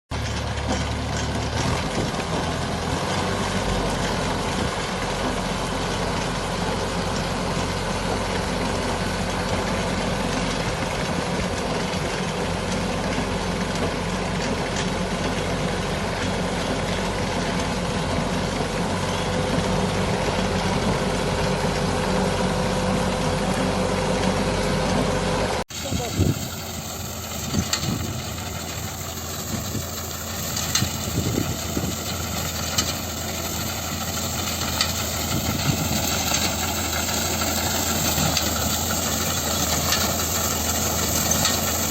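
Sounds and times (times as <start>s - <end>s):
reaper engine running: 0.1s - 41.9s.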